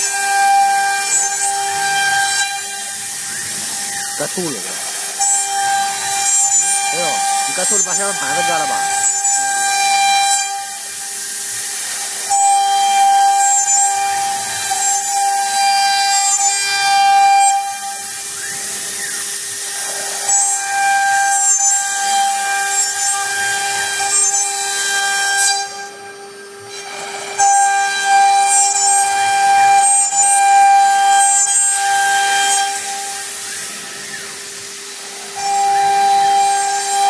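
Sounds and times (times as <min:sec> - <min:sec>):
bit cutting wood hiss: 0:00.0 - 0:37.0
router spindle whining: 0:00.0 - 0:37.0.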